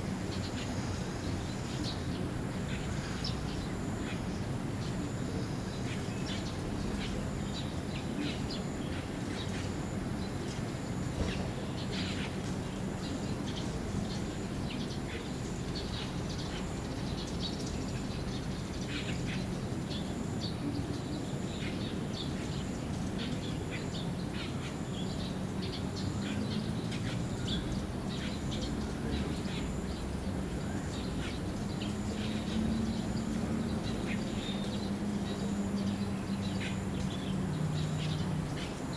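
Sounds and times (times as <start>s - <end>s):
birds chirping: 0.2s - 38.9s.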